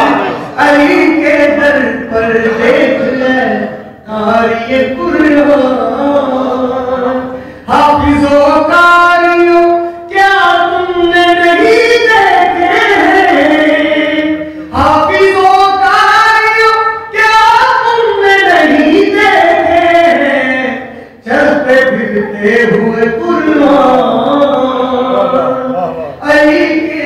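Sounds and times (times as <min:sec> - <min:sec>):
man singing: 0:00.0 - 0:27.0.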